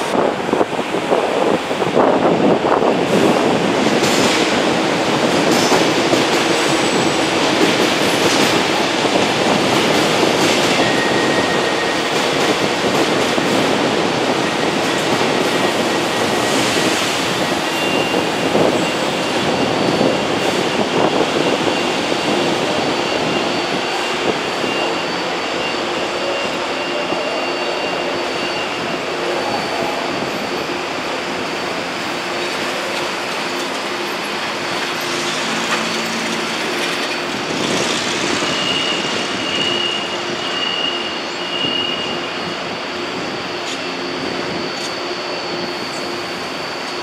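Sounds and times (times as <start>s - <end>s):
constant high whine: 0.0s - 47.0s
train wheels rushing: 0.0s - 47.0s.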